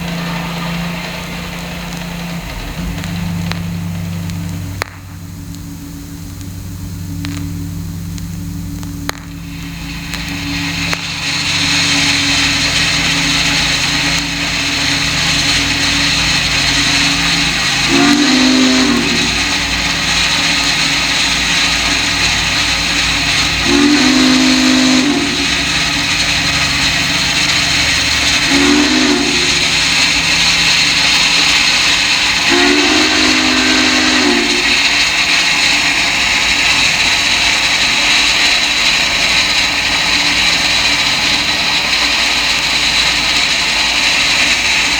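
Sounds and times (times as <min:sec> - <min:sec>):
locomotive hiss and rumble: 0:00.0 - 0:44.9
steam locomotive whistle: 0:00.0 - 0:44.9.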